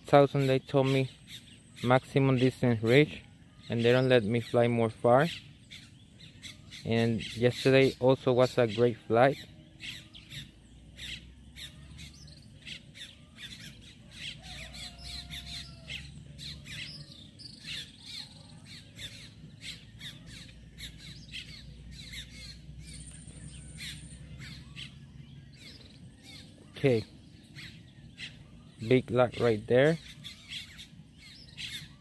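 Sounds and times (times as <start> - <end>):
birds chirping and squawking: 0.0 - 32.0.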